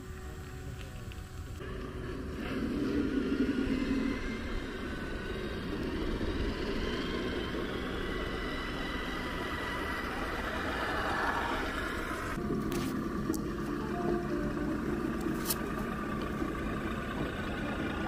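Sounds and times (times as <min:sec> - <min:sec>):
rc trucks motors whining: 0:00.0 - 0:18.0.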